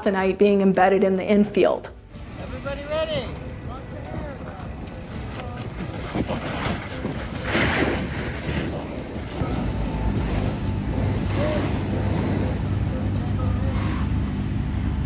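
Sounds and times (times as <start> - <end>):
wind rumbling on microphone: 2.1 - 15.0.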